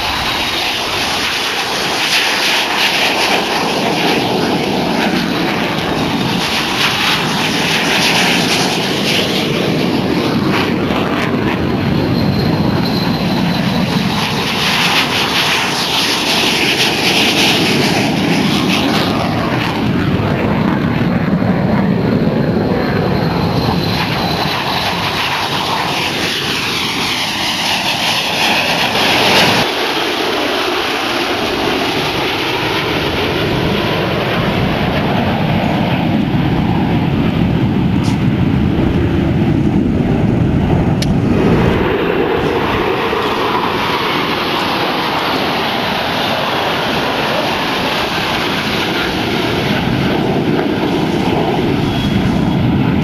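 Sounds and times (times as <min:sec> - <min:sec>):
jet engines passing overhead: 0:00.0 - 0:53.0.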